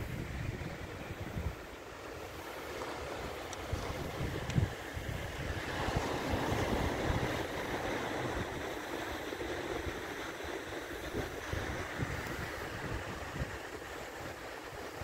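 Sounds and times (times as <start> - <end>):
wind buffeting microphone: 0.0 - 15.0
surf washing onto shingle: 1.3 - 15.0.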